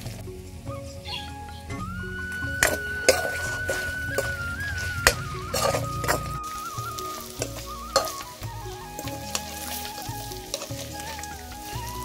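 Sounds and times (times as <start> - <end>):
background music: 0.0 - 12.0
ladle scraping wok: 2.2 - 12.0.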